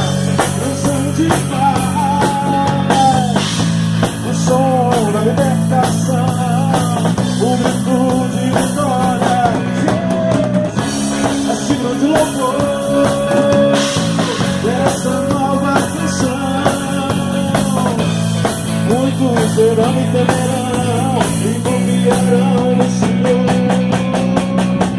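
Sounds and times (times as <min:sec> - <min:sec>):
drum kit: 0:00.0 - 0:24.9
electric bass: 0:00.0 - 0:24.9
electric guitar: 0:00.0 - 0:24.9
live rock band playing: 0:00.0 - 0:24.9.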